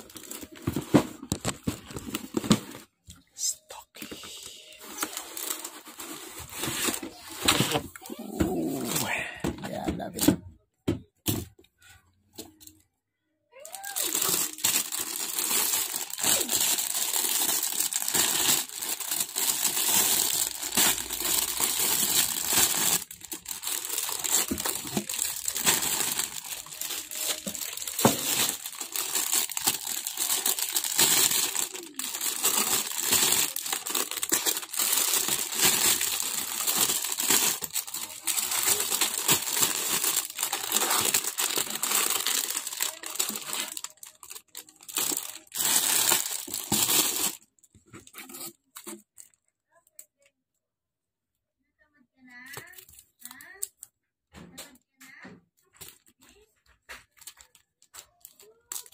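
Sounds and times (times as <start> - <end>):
plastic bags crinkling: 0.0 - 3.0, 4.2 - 10.4, 13.6 - 50.0, 55.8 - 58.9.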